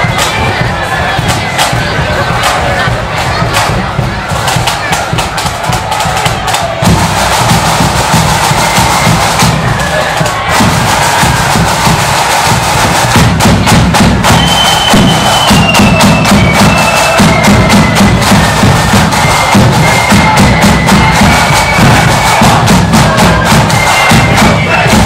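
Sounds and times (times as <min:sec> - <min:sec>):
bass drum beat: 0:00.0 - 0:25.0
flutes playing melody: 0:00.0 - 0:25.0
snare drums: 0:00.0 - 0:25.0.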